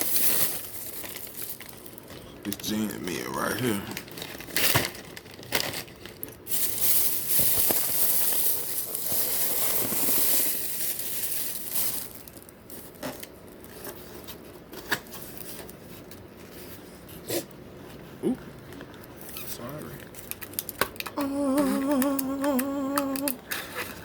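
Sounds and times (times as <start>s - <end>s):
food packaging crinkling: 0.0s - 16.9s, 19.0s - 24.0s.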